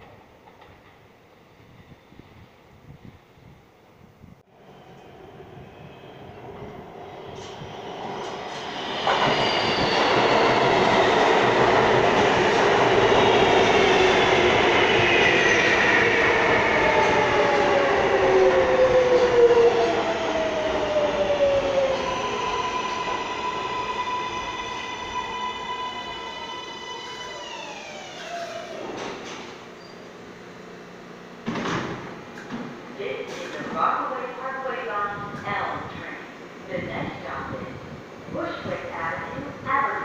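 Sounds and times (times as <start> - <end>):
subway train rumbling in: 0.0 - 40.0.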